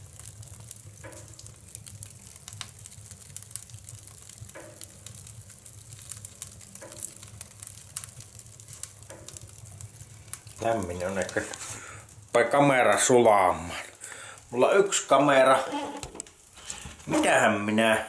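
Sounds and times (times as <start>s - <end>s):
firewood crackling and popping: 0.0s - 18.0s
low steady rumble of fire: 0.0s - 18.0s.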